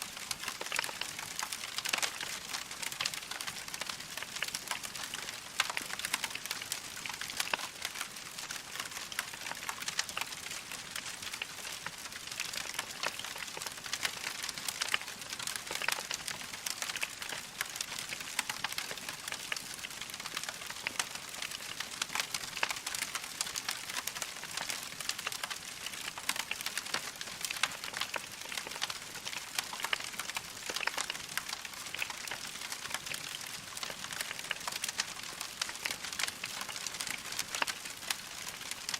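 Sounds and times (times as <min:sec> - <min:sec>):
wood fire crackling: 0:00.1 - 0:38.9.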